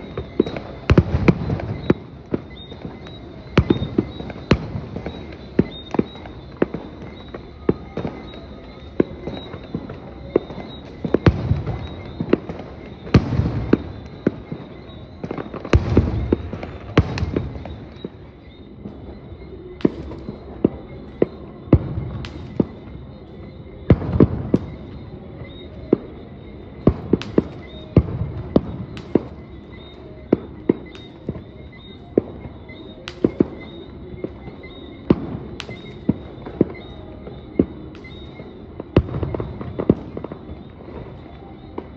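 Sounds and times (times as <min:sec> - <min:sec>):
fireworks cracking bangs: 0:00.0 - 0:41.9.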